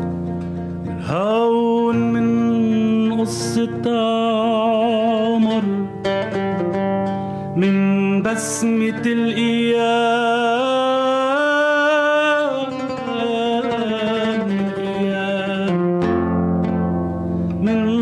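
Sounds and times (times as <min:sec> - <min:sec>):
oud: 0:00.0 - 0:18.0
man singing with vibrato: 0:00.9 - 0:06.7, 0:07.5 - 0:16.8, 0:17.5 - 0:18.0.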